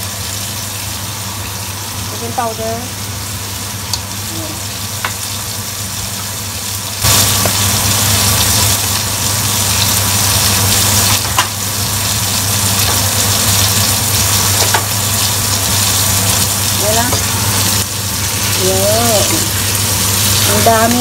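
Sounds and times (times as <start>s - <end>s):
vegetables sizzling in a pot: 0.0s - 21.0s.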